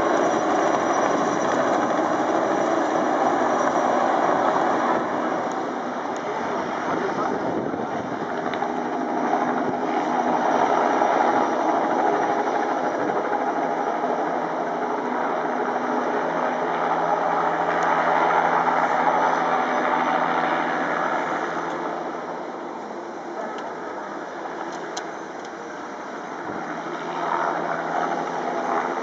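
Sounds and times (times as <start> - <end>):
helicopter hovering: 0.0 - 29.0.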